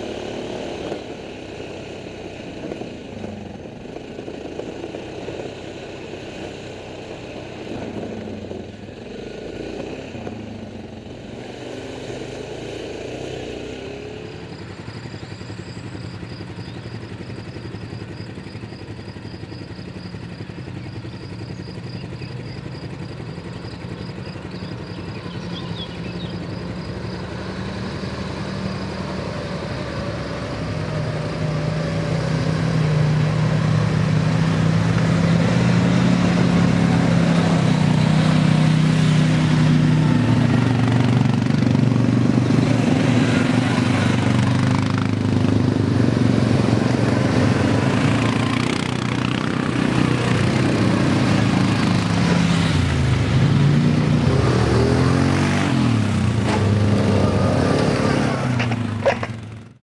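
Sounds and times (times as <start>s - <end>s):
quad bike engines: 0.0s - 59.8s.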